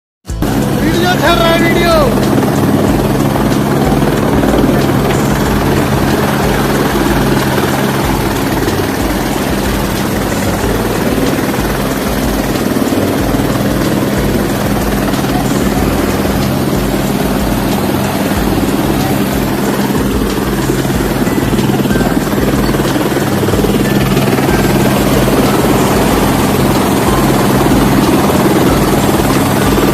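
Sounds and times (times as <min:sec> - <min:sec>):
helicopter engine and rotor drone: 0:00.3 - 0:29.9.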